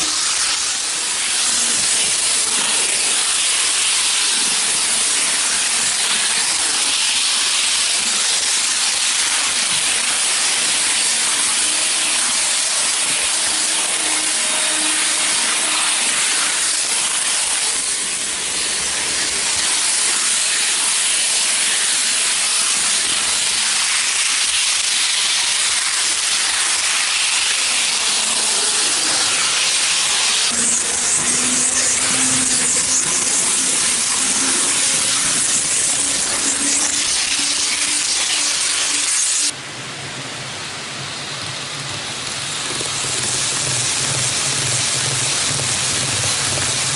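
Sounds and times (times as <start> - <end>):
model train wheels and motor hiss: 0.0 - 39.6, 40.6 - 46.9.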